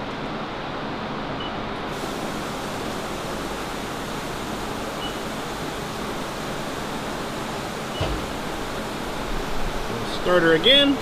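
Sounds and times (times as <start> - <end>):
coolant hissing and splashing: 1.9 - 11.0.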